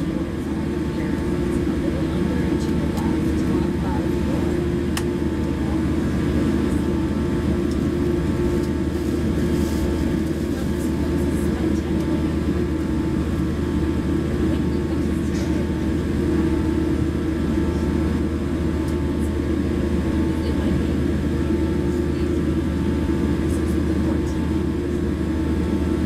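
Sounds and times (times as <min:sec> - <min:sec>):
jet engines idling in cabin: 0:00.0 - 0:26.0.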